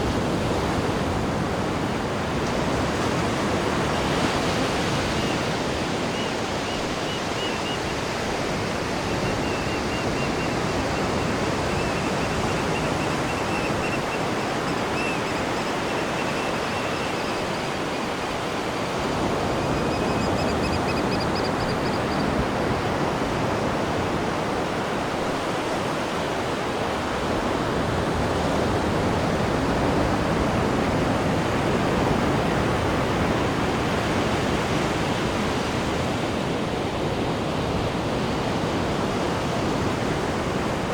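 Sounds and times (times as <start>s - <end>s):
sea water rushing: 0.0s - 40.9s.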